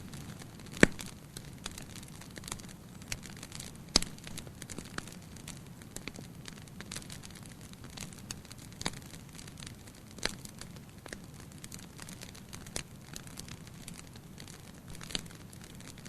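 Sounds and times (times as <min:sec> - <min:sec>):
soft steady hiss: 0:00.0 - 0:16.0
wood fire crackling and popping: 0:00.0 - 0:16.0.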